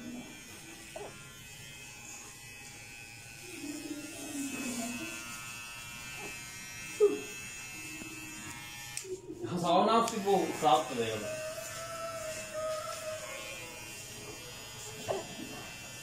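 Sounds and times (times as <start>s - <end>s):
electric hair clipper running: 0.0s - 16.0s.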